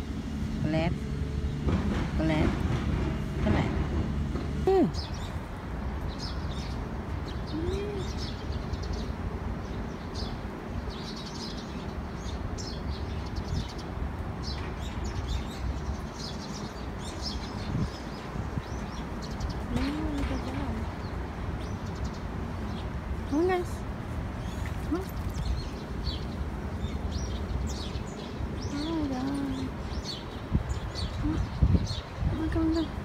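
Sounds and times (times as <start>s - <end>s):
small birds chirping: 4.4s - 33.0s.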